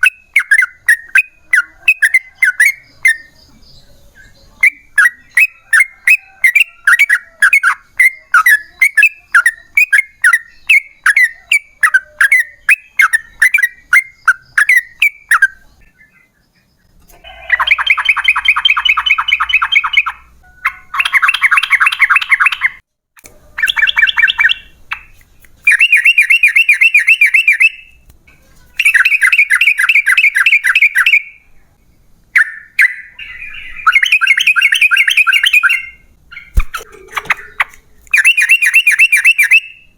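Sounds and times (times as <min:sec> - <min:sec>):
bird chirping: 0:00.0 - 0:39.9
bird rattling song phrases: 0:04.4 - 0:22.8, 0:23.5 - 0:31.3, 0:32.4 - 0:39.9.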